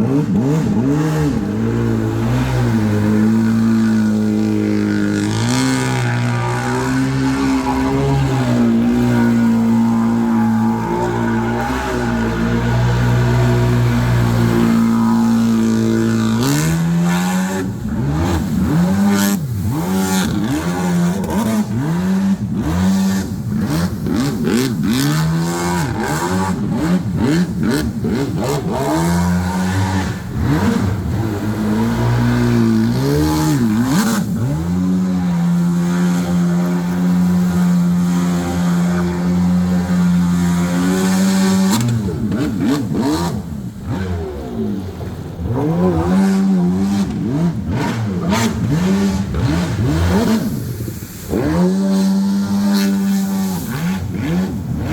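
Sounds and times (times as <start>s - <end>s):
small boat engine revving: 0.0s - 54.9s.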